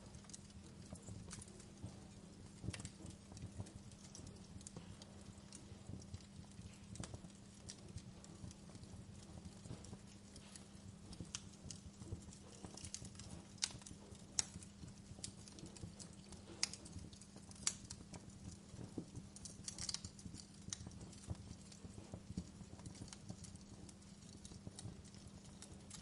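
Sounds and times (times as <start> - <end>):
low steady hum: 0.0 - 26.0
wood fire crackling: 0.0 - 26.0.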